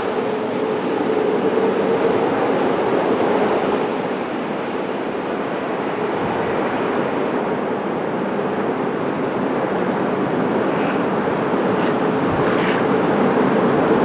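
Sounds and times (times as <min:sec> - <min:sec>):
jet engines roaring: 0:00.4 - 0:14.0.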